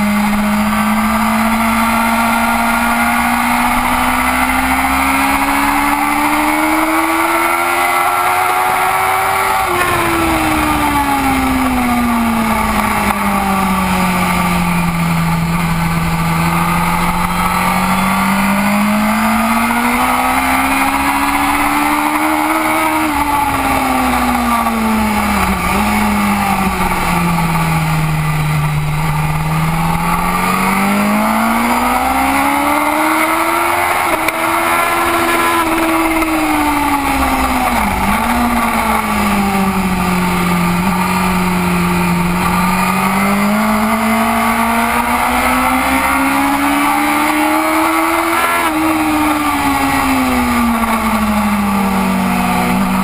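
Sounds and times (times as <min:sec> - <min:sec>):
motorcycle engine racing: 0:00.0 - 0:53.0.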